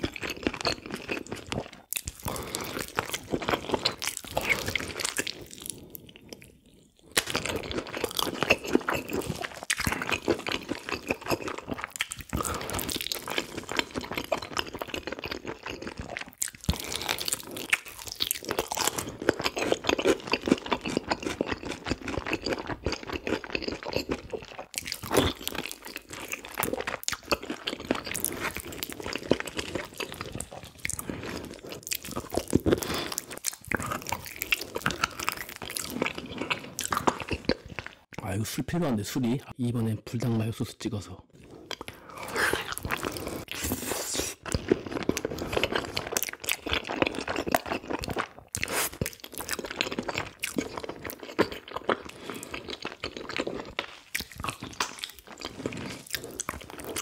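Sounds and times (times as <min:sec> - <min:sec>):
person chewing: 0:00.0 - 0:38.2, 0:41.3 - 0:57.0.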